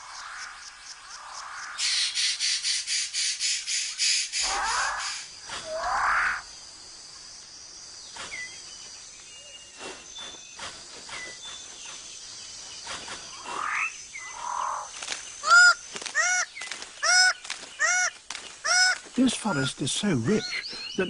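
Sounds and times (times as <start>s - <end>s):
birds calling and whistling: 0.0s - 6.8s, 7.4s - 21.0s
high insect hum: 0.0s - 21.0s.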